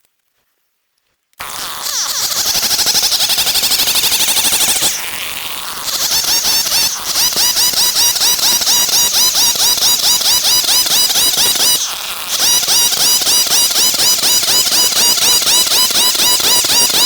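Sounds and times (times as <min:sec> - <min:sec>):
chainsaw cutting timber: 0:01.4 - 0:17.0.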